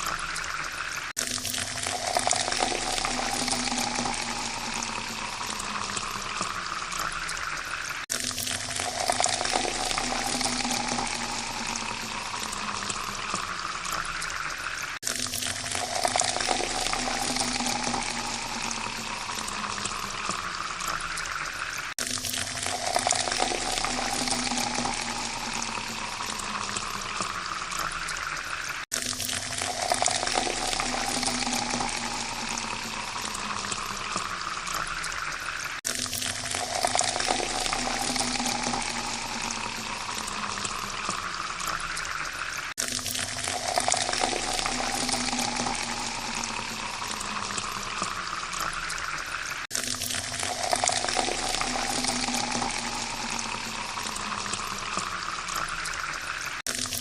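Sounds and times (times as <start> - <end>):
water pouring into a glass: 0.0 - 57.0.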